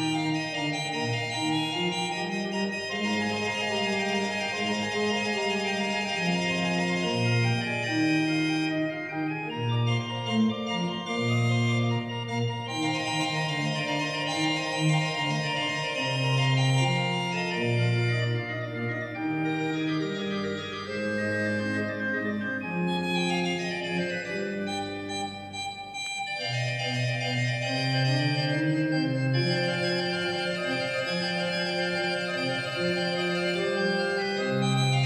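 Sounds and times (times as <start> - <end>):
pipe organ playing chords: 0.0 - 35.0.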